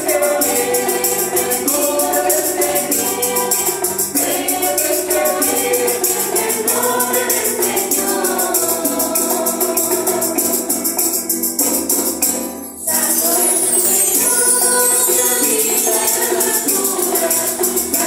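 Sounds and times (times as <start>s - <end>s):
choir singing a hymn: 0.0s - 11.3s, 12.8s - 18.0s
strummed mandolins: 0.0s - 18.0s
tambourine jingling: 0.0s - 18.0s.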